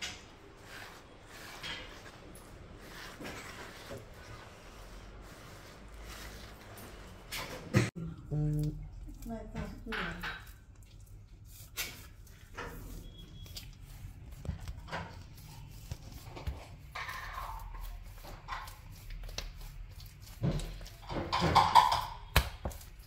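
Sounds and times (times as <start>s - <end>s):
dough being kneaded by hand: 0.0s - 23.0s.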